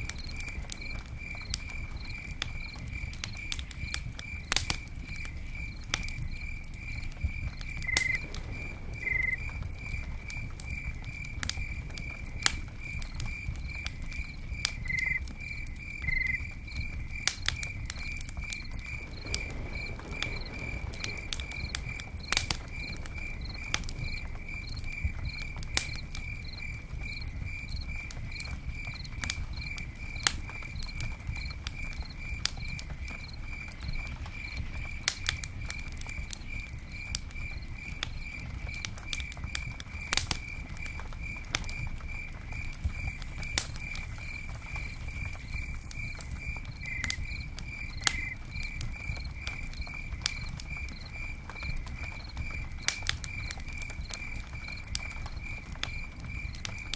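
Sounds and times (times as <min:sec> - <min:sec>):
campfire crackling and popping: 0:00.0 - 0:56.9
cricket chirping: 0:00.0 - 0:56.9.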